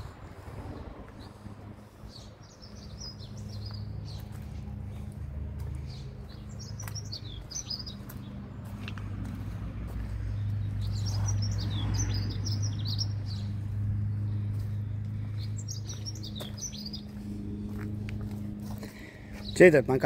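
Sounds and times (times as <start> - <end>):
songbirds chirping: 0.0 - 20.0
steady low hum: 0.0 - 20.0.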